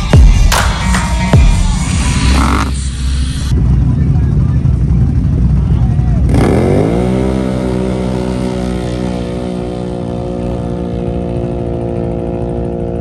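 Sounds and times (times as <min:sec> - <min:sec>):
atv engines at full throttle: 0:01.1 - 0:13.0.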